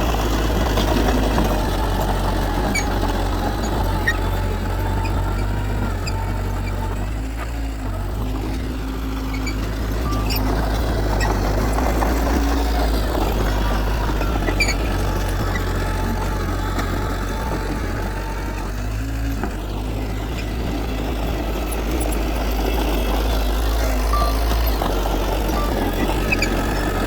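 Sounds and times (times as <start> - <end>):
diesel machinery engine drone: 0.0 - 27.0.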